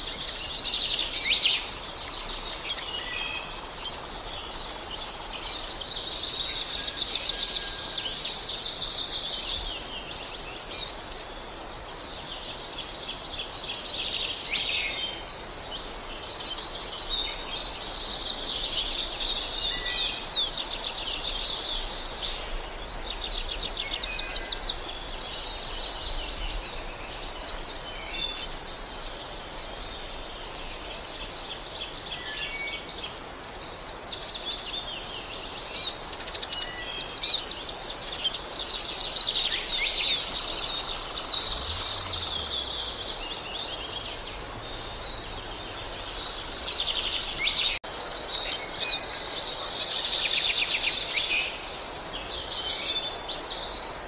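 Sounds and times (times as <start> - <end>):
songbirds chirping: 0.0 - 54.0
steady hiss: 0.0 - 54.0.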